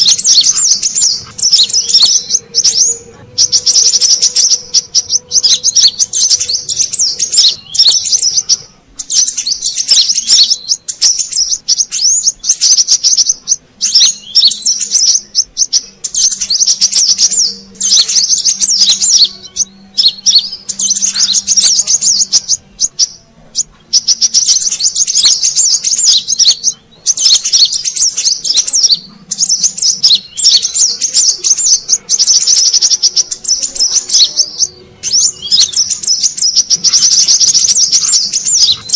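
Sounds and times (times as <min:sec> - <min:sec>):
high twittering bird chirps: 0:00.0 - 0:38.9.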